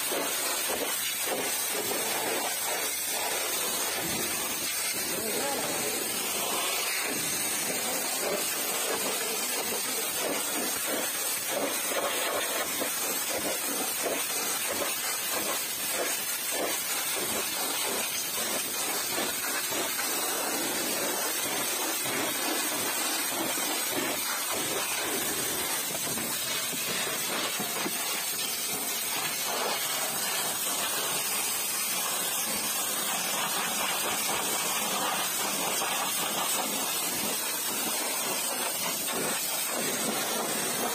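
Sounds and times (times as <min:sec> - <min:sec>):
pressure washer spraying: 0:00.0 - 0:40.9
water spattering off surfaces: 0:00.0 - 0:40.9.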